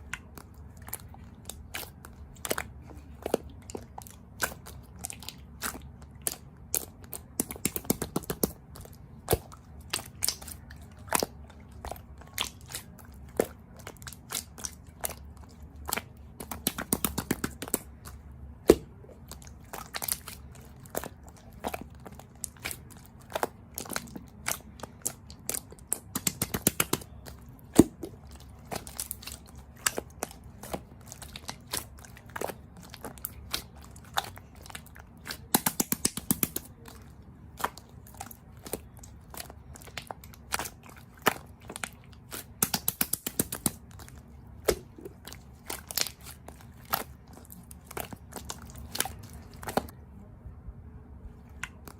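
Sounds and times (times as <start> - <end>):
close crunching with crackles: 0.0 - 50.0.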